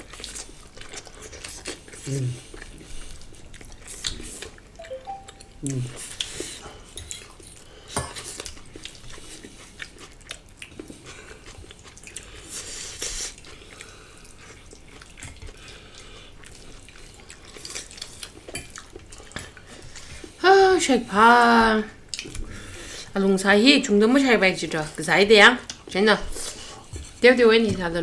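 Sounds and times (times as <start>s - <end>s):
people chewing: 0.0s - 20.4s, 22.0s - 23.2s, 25.6s - 27.9s.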